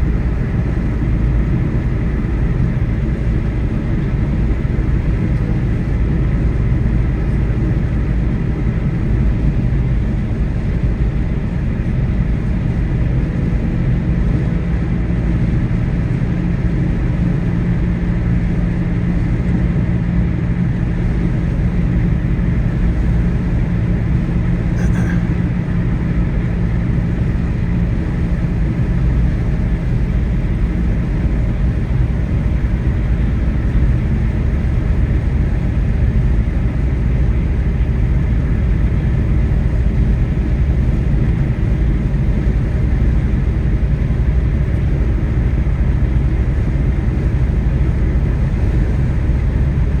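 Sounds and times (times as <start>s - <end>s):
moving car rumble: 0.0s - 50.0s.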